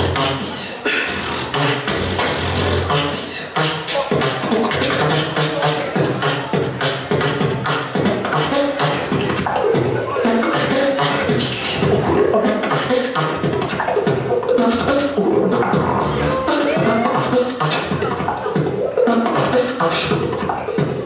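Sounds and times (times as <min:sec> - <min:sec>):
beatboxing kick and snare: 0:00.0 - 0:21.0
pitched vocal lines: 0:00.0 - 0:21.0.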